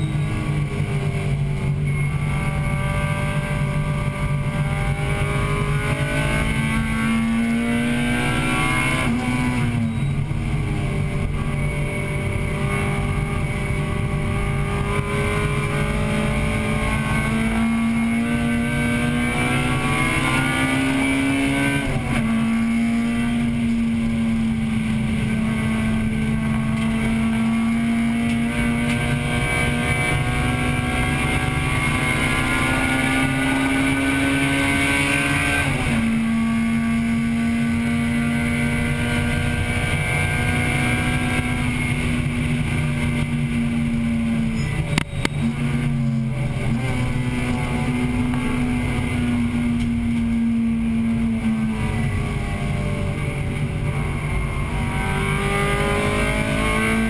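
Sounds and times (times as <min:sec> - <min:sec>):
car engine at full throttle: 0:00.0 - 0:57.0
road and wind noise: 0:00.0 - 0:57.0.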